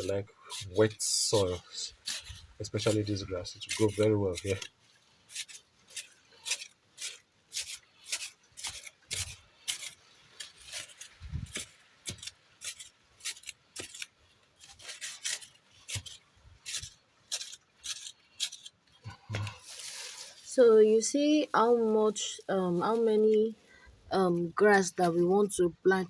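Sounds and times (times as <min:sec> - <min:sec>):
scraping and rustling strokes: 0:00.0 - 0:25.7.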